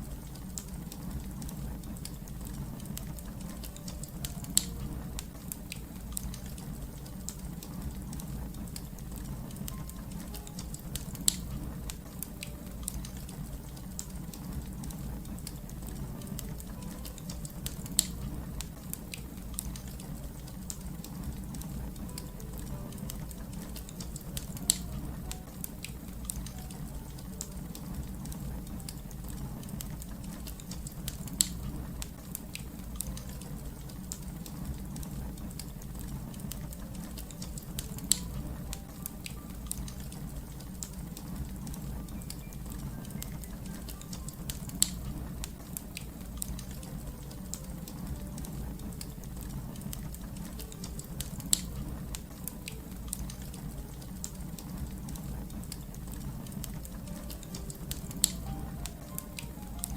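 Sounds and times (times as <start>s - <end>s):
fire crackling: 0.0s - 59.9s
flames rumbling: 0.0s - 59.9s.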